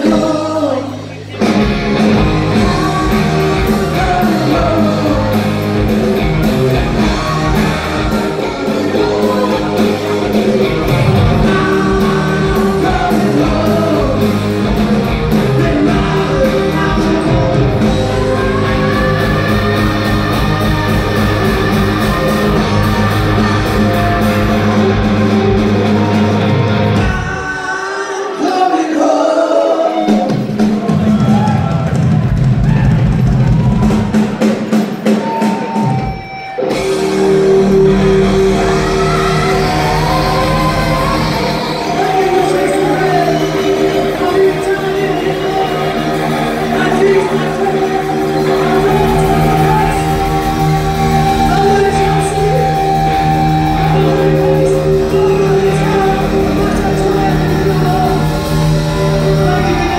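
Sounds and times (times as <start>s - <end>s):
live rock band playing: 0.0s - 29.0s, 29.6s - 59.9s
lead vocals: 0.0s - 59.9s.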